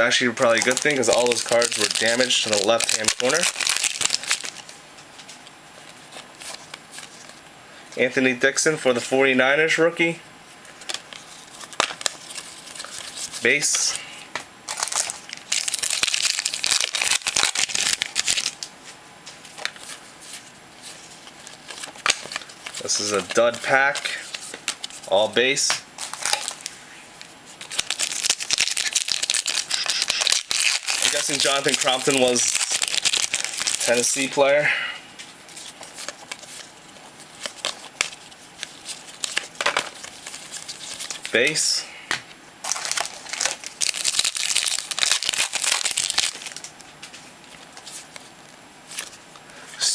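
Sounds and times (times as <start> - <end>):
card pack wrapper crinkling: 0.1 - 7.4, 10.8 - 13.6, 14.7 - 18.7, 19.5 - 25.3, 26.0 - 34.4, 35.2 - 41.6, 42.6 - 49.2
cards rustling: 0.2 - 7.4, 10.6 - 14.0, 14.7 - 34.5, 35.2 - 41.7, 42.6 - 49.2.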